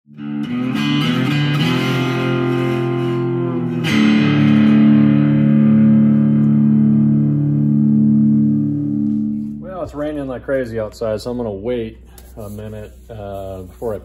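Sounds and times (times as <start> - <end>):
guitar chords: 0.1 - 12.3.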